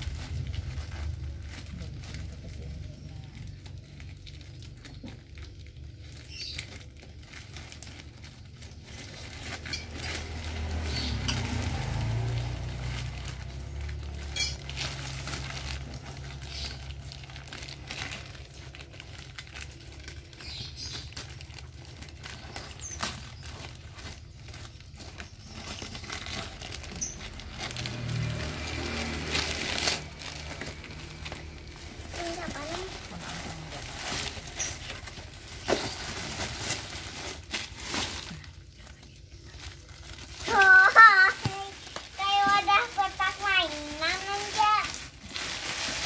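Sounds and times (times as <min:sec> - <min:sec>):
plastic wrapping crinkling: 0:00.0 - 0:46.0.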